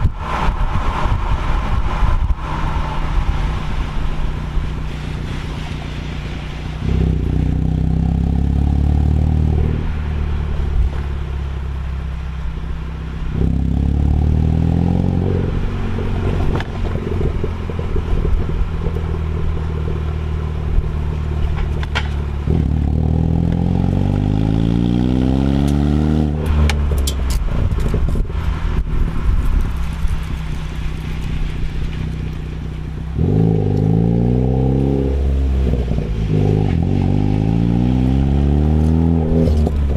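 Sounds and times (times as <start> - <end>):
car engine revving: 0.0 - 39.9
exhaust crackles: 0.0 - 39.9.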